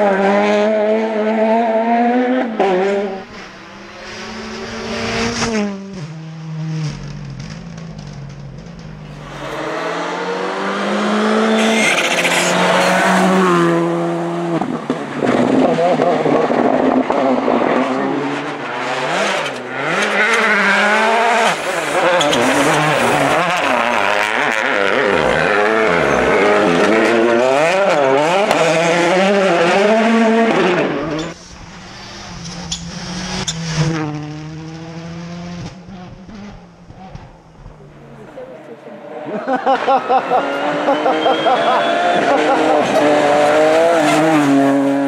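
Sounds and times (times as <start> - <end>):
rally car engines revving: 0.0 - 45.0.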